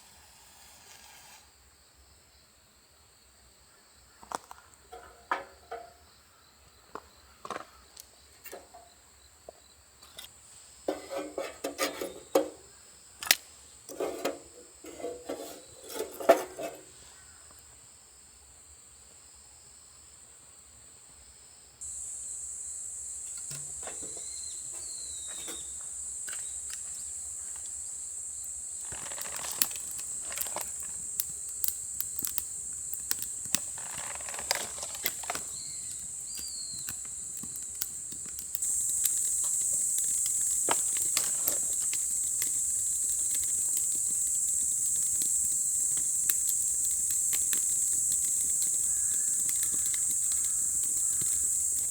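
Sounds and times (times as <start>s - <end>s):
crickets chirring: 0.0s - 51.9s.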